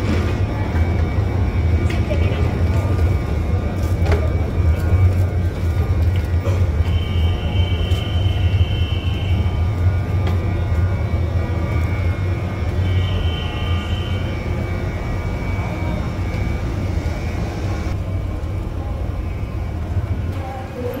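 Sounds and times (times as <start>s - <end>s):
escalator machinery rumbling hum: 0.0s - 21.0s
faint high whine: 0.4s - 21.0s.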